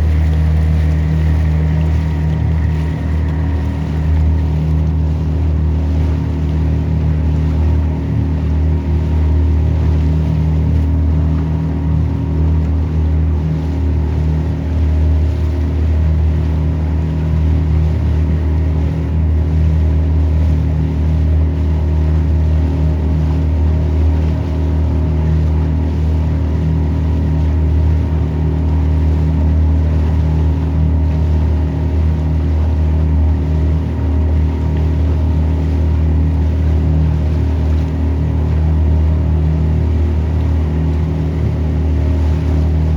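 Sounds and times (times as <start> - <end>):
motorboat engine droning: 0.0 - 42.9
water rushing: 0.0 - 42.9
wind: 0.0 - 42.9.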